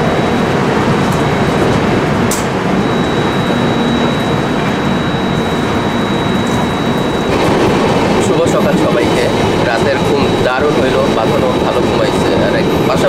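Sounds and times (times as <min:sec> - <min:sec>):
thin high whine: 0:00.0 - 0:13.0
train coach rumbling on rails: 0:00.0 - 0:13.0.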